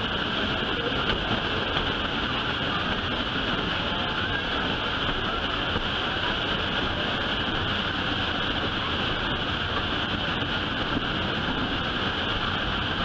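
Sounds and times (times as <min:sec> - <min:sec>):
train rumbling in motion: 0:00.0 - 0:13.0.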